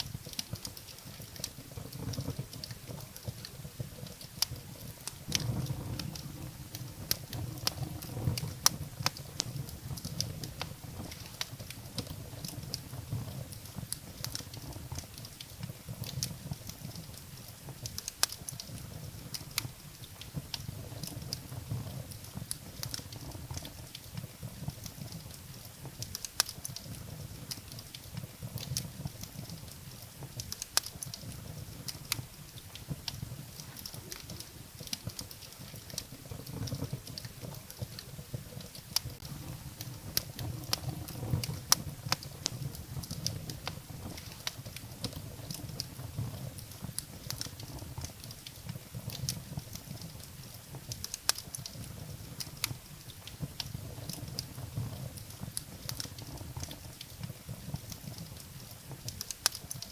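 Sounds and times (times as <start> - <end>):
firewood crackling: 0.0 - 59.9.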